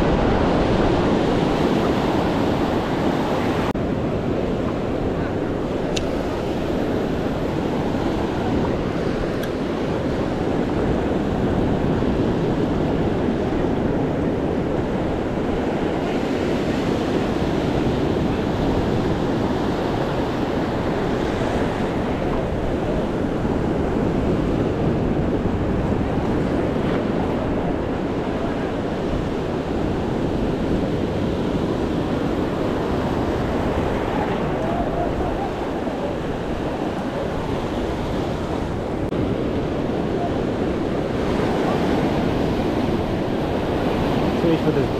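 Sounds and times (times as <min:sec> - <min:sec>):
ocean surf washing in: 0:00.0 - 0:44.9
wind on microphone: 0:00.0 - 0:44.9.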